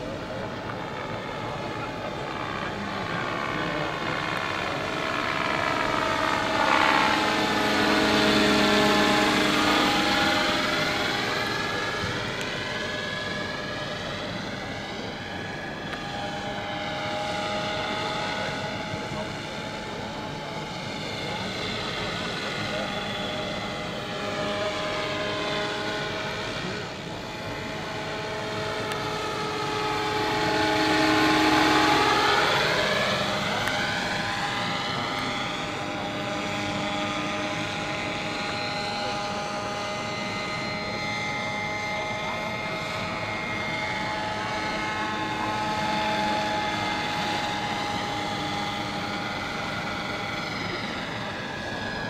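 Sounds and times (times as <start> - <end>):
model helicopter whine: 0.0 - 52.0.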